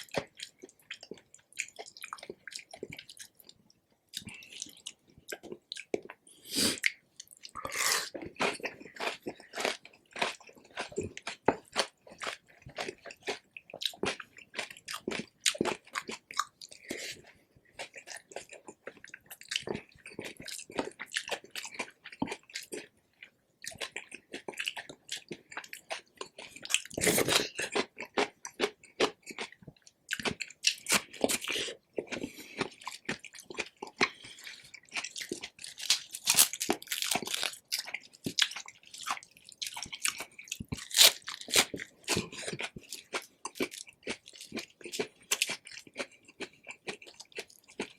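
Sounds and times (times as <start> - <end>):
chewing crispy pork crackling: 0.0 - 47.9.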